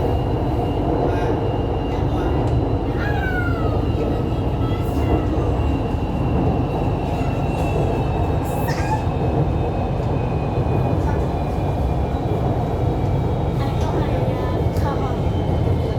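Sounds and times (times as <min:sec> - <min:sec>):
train rumble: 0:00.0 - 0:15.9.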